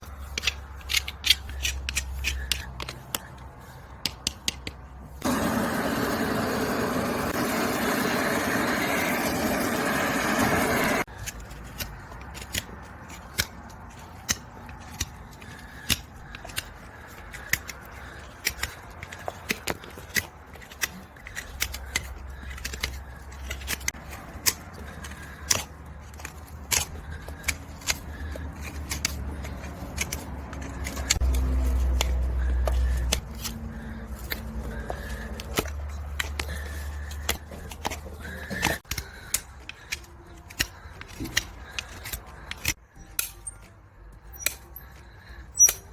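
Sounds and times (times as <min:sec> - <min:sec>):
hoof tools clicking and snipping: 0:00.0 - 0:45.9.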